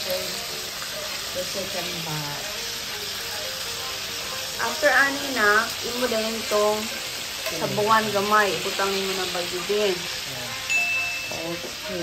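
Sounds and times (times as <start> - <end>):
meat sizzling in frying pan: 0.0 - 12.0.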